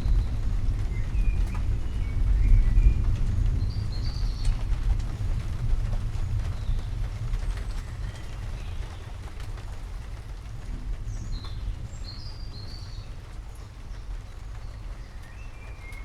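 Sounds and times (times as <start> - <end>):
low rumble of thunder: 0.0 - 16.0.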